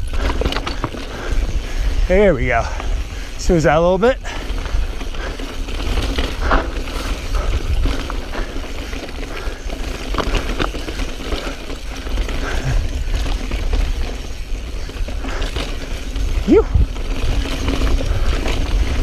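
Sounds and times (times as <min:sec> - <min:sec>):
bike rattling over rock: 0:00.0 - 0:19.0
wind rumble on microphone: 0:00.0 - 0:19.0.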